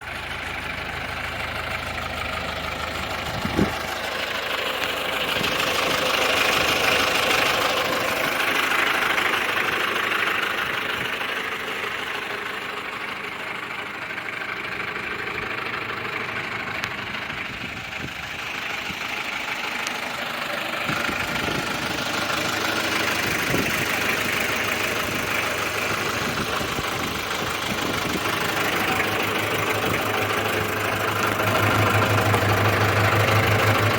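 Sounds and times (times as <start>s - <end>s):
diesel tractor engine running: 0.0s - 33.9s.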